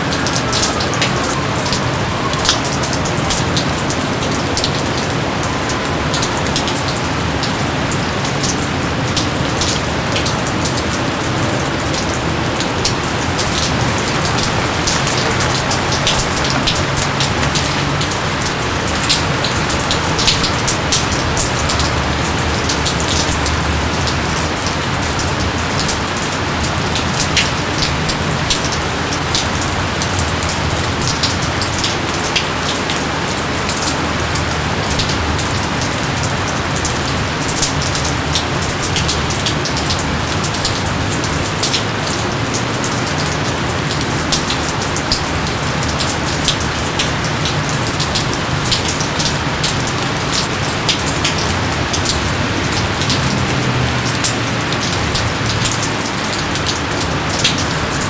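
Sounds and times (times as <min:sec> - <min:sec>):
heavy rain: 0:00.0 - 0:58.0
raindrops pattering: 0:00.0 - 0:58.0.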